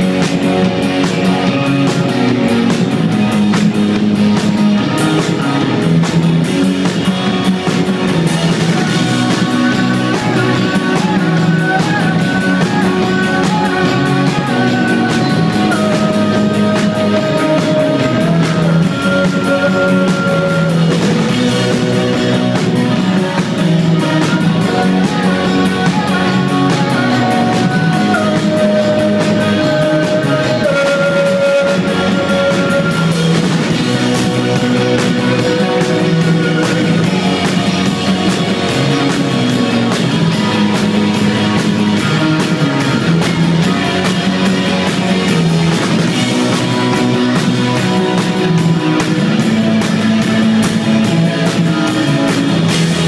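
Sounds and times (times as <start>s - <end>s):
rock band playing live: 0.0s - 53.0s.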